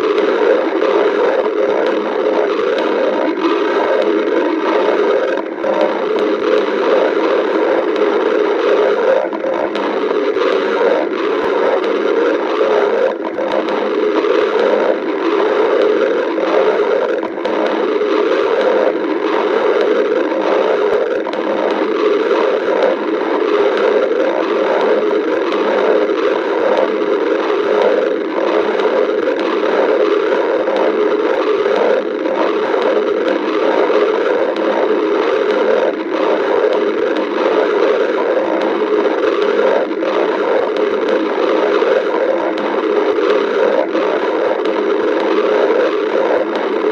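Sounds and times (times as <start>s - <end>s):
stomach growling: 0.0s - 46.9s.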